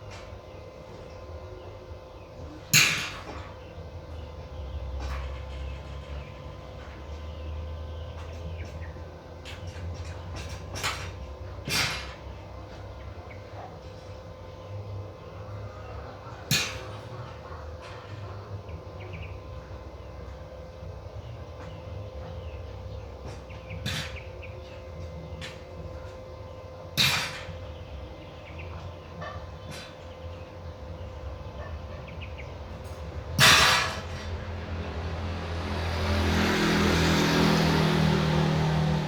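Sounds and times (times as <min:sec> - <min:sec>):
engine: 0:00.0 - 0:39.0.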